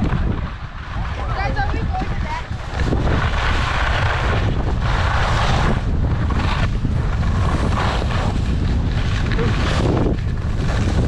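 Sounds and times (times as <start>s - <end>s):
skis scraping over snow: 0.0s - 11.0s
wind rumbling on microphone: 0.0s - 11.0s.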